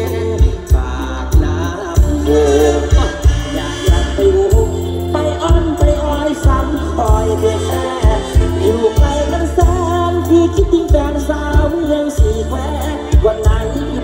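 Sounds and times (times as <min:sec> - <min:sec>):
heavy bass line: 0:00.0 - 0:14.0
live band music: 0:00.0 - 0:14.0.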